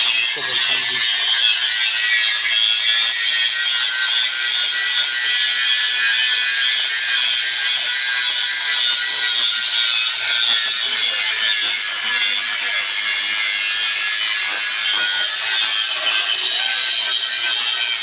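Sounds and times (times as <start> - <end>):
angle grinder grinding steel pipe: 0.0 - 18.0.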